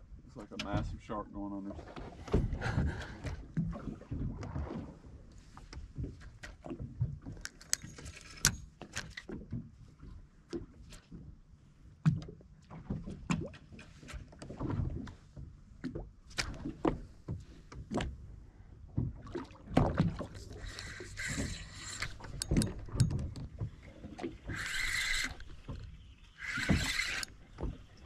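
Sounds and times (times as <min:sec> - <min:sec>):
small waves slapping boat hull: 0:01.6 - 0:28.0.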